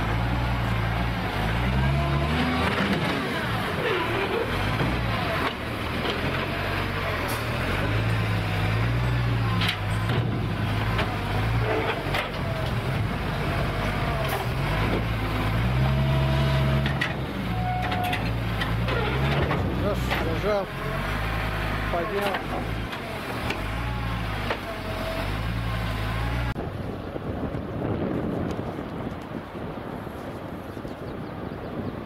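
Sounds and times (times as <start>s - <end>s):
diesel engine running: 0.0s - 28.2s.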